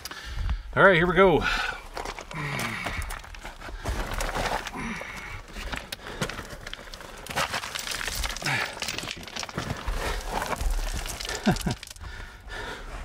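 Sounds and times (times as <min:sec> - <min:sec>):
body scraping against rock: 0:01.6 - 0:13.0
stones clicking and knocking: 0:01.7 - 0:12.5.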